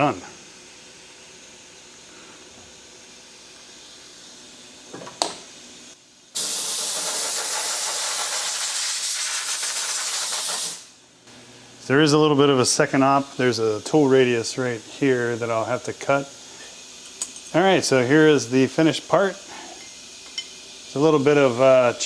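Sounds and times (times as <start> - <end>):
compressed air hissing: 0.0 - 4.4, 6.4 - 11.0, 13.0 - 22.0.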